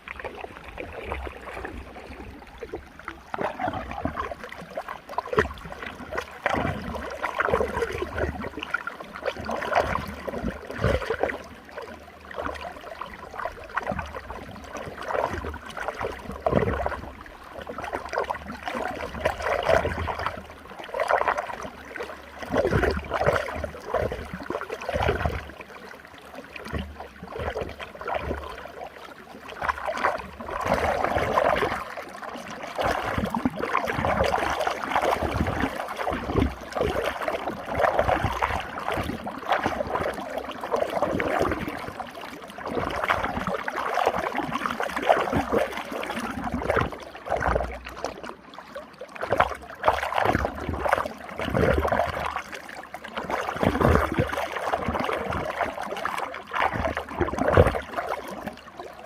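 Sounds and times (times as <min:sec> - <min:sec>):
water swirling in whirlpool: 0:00.0 - 0:59.0.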